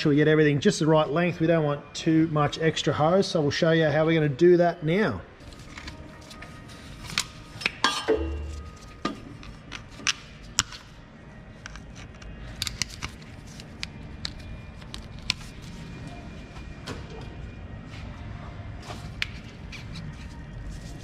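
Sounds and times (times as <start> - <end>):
faint music: 0.0 - 21.0.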